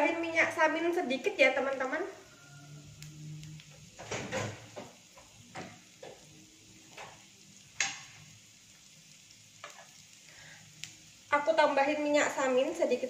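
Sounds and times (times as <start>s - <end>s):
garlic frying in a pan: 0.0s - 13.0s.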